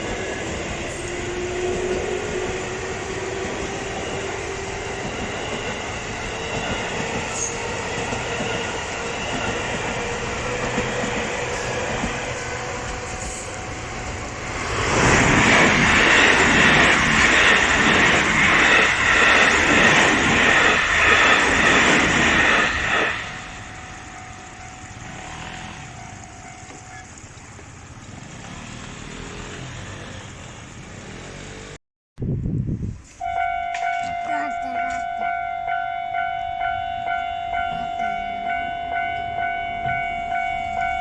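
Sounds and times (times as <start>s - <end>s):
electric train passing at speed: 0.0s - 41.0s.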